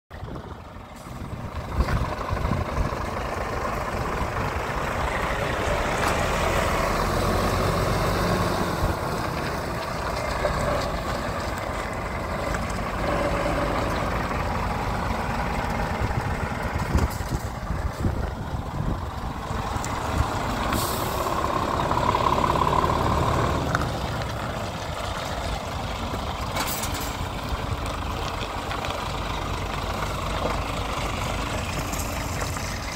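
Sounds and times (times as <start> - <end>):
diesel truck engine idling: 0.1 - 32.9.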